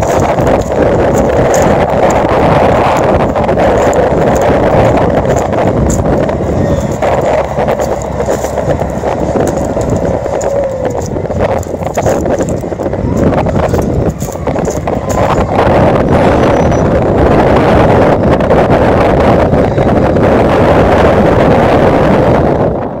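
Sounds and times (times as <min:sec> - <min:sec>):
tractor diesel engine under load: 0:00.0 - 0:23.0
wind buffeting microphone: 0:00.0 - 0:23.0.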